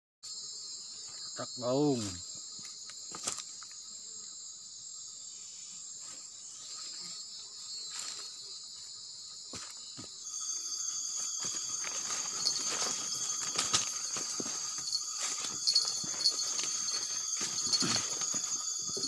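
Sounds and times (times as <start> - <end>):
chorus of night insects: 0.2 - 19.0.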